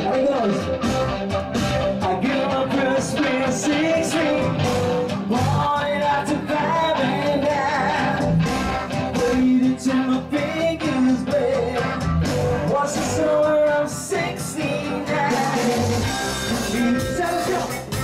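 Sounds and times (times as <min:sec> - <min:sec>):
man singing into a microphone: 0:00.0 - 0:00.8, 0:02.0 - 0:18.0
live band music: 0:00.0 - 0:18.0.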